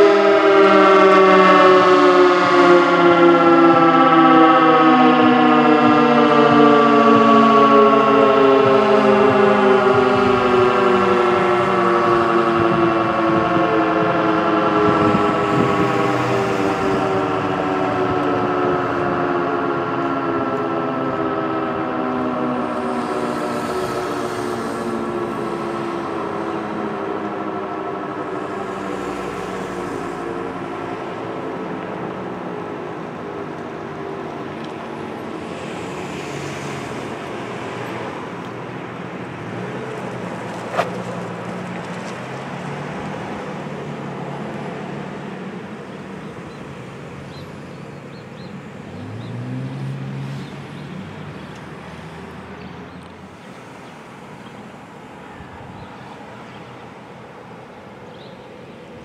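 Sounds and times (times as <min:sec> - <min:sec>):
warning siren winding down: 0:00.0 - 0:58.1
traffic noise: 0:00.0 - 0:59.0
vehicle passing: 0:00.1 - 0:55.8.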